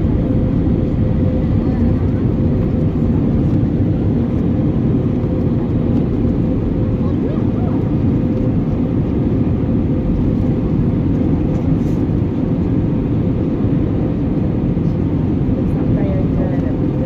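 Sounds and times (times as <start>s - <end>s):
airliner cabin engine rush: 0.0s - 17.0s.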